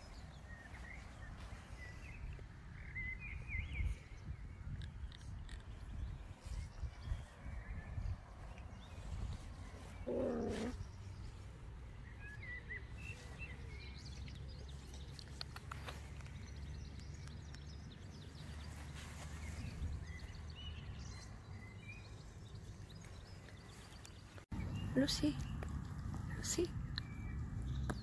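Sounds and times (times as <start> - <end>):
low wind rumble on microphone: 0.0 - 15.2, 16.0 - 28.0.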